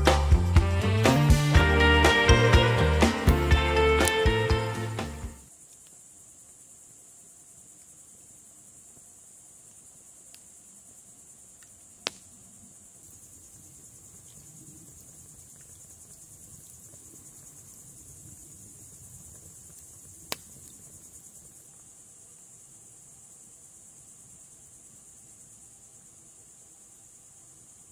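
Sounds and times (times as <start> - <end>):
crickets trilling: 1.6 - 27.9.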